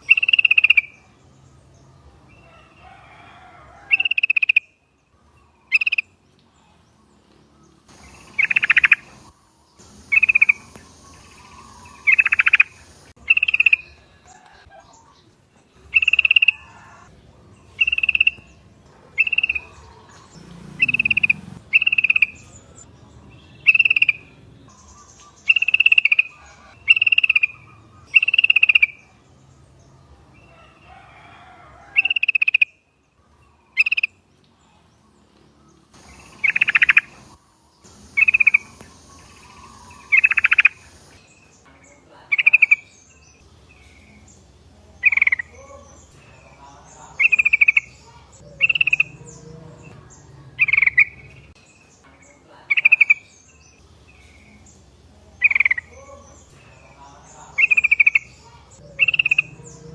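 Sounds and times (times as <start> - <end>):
birds chattering calls: 0.0 - 59.9.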